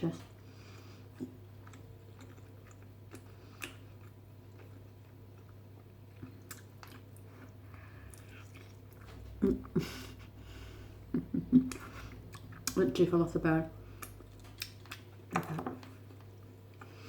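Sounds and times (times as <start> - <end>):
person chewing: 0.4 - 12.9, 13.9 - 17.0.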